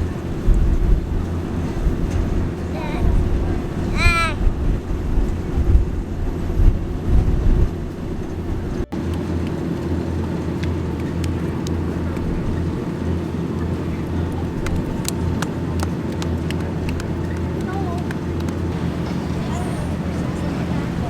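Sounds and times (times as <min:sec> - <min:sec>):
boat engine drone: 0:00.0 - 0:21.0
wind on microphone: 0:00.0 - 0:21.0.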